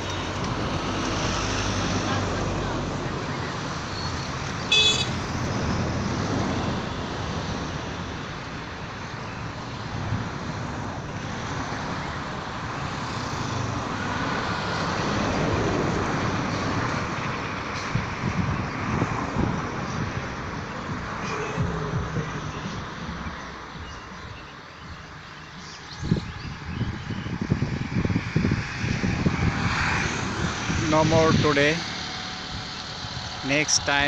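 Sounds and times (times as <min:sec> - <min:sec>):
passing vehicles hum: 0:00.0 - 0:34.0.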